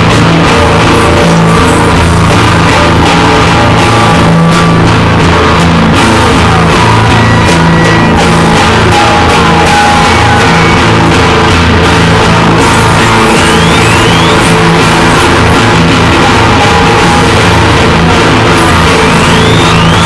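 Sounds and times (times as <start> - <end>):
heavy rock music: 0.0 - 20.0.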